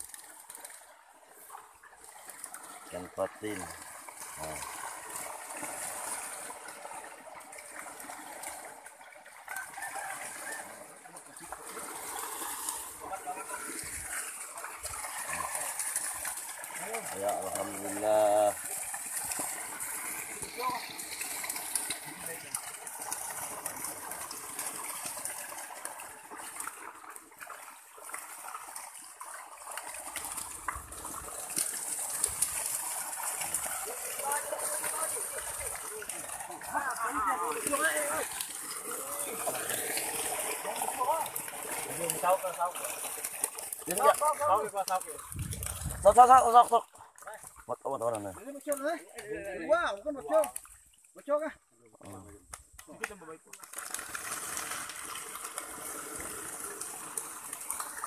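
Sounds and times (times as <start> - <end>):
water splashing through a net: 0.0 - 58.0.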